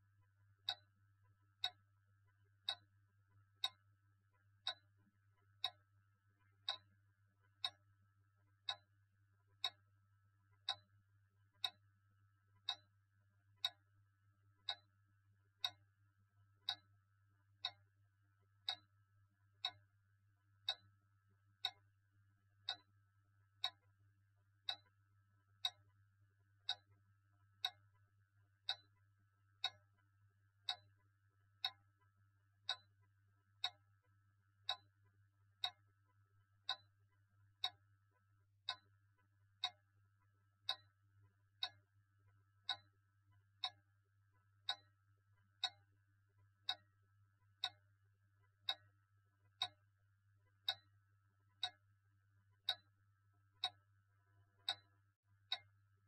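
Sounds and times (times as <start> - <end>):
clock ticking: 0.2 - 6.9, 7.5 - 8.9, 9.5 - 10.9, 11.5 - 12.0, 12.6 - 13.0, 13.6 - 13.9, 14.6 - 15.0, 15.6 - 18.0, 18.6 - 19.9, 20.6 - 21.0, 21.6 - 21.9, 22.6 - 26.0, 26.6 - 38.0, 38.6 - 55.7.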